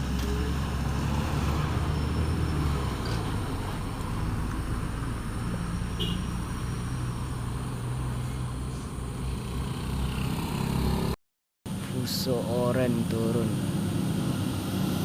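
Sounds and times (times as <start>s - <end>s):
heavy vehicle engine passing: 0.0s - 11.2s, 12.0s - 15.0s
tyre and traffic noise: 0.0s - 15.0s.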